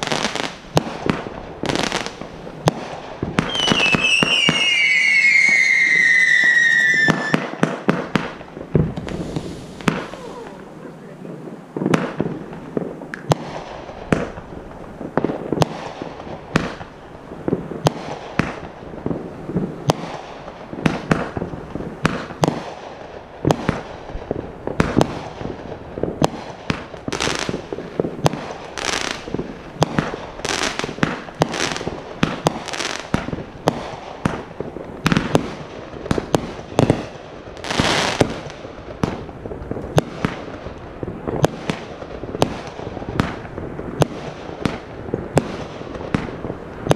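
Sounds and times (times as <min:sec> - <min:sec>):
fireworks bangs: 0:00.0 - 0:46.9
fireworks hissing bursts: 0:00.0 - 0:46.9.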